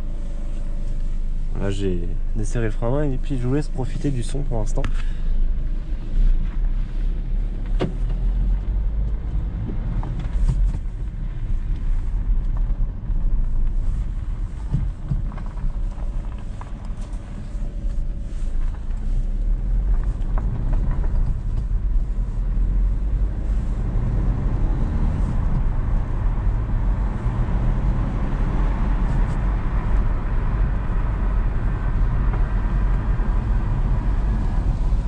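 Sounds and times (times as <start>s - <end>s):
car engine accelerating: 0.0s - 35.0s
tyre and road noise: 0.0s - 35.0s.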